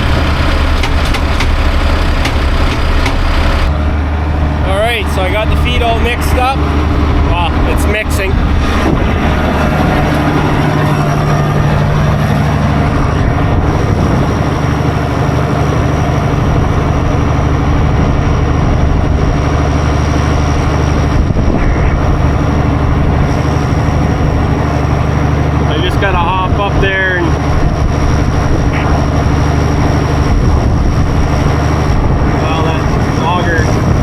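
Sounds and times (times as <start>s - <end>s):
feed mixer machine droning: 0.0s - 34.0s
low hum: 0.0s - 34.0s.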